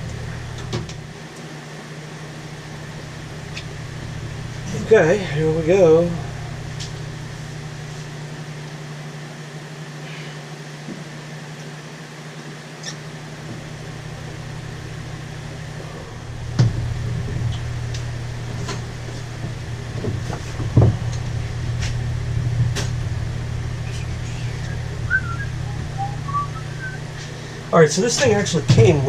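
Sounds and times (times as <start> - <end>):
low hum: 0.0 - 9.8, 12.8 - 29.0.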